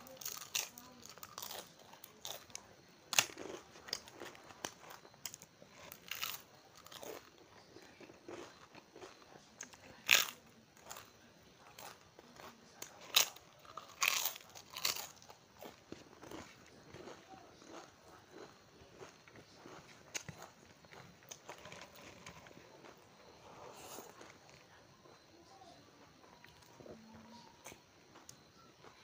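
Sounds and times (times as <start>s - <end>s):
wafers crunching: 0.0s - 25.3s
soft chewing: 0.0s - 29.0s.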